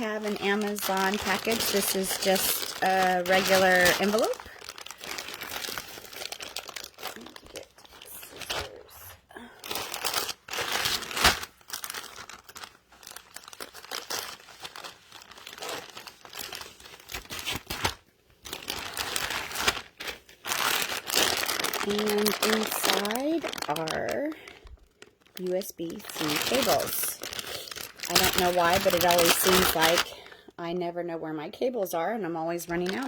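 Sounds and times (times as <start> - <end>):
envelope ripping: 0.0 - 30.1
envelope crinkling and rustling: 0.0 - 30.3, 32.5 - 33.0.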